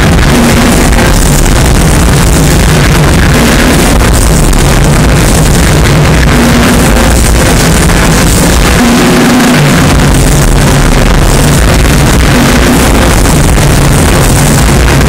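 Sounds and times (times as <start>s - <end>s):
distorted rock drum solo: 0.0s - 15.0s.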